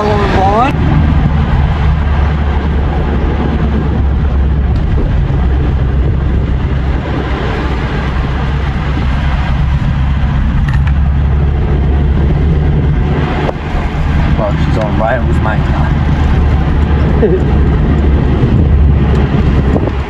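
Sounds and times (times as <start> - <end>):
car cabin drone and road noise: 0.0 - 20.0.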